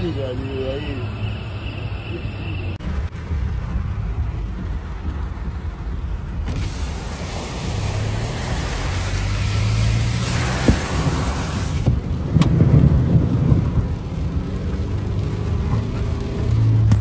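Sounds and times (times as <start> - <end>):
cars driving through water: 3.0 - 17.0.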